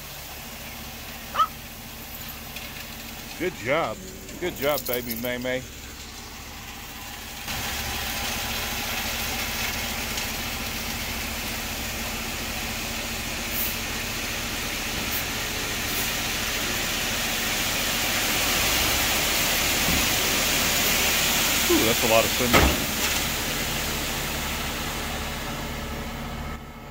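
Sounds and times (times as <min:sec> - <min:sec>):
diesel truck engine running: 0:00.0 - 0:26.9.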